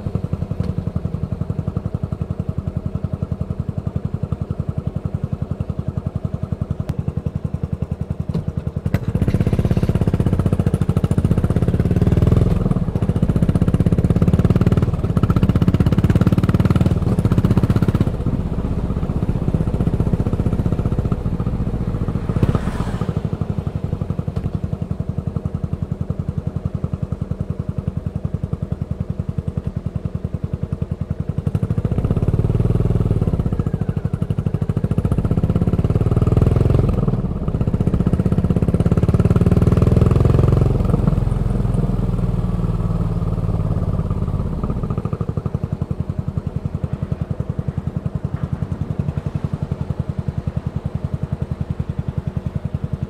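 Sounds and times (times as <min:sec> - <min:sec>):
motorcycle engine revving and idling: 0:00.0 - 0:53.0.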